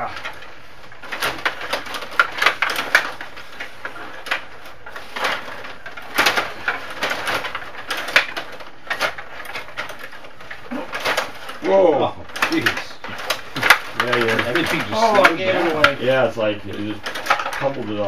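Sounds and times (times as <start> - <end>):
table hockey rods clicking: 0.0 - 18.0.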